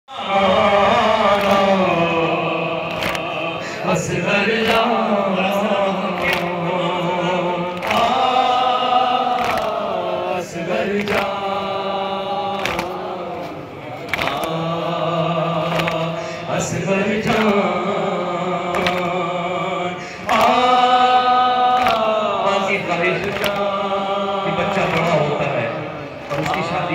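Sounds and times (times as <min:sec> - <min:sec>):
men chanting a lament: 0:00.1 - 0:26.9.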